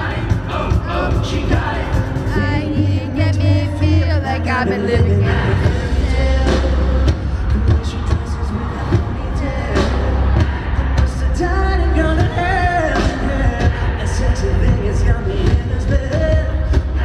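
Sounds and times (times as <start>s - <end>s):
live pop band playing: 0.0s - 17.0s
man singing: 0.0s - 17.0s.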